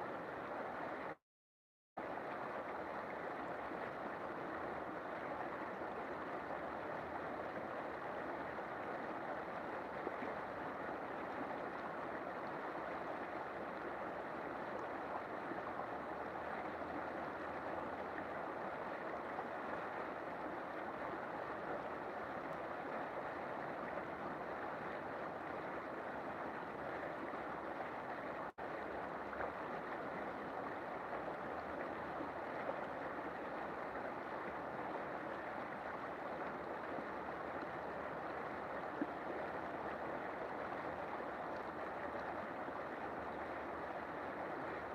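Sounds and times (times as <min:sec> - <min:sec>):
river water flowing: 0:00.0 - 0:01.2, 0:02.0 - 0:44.9.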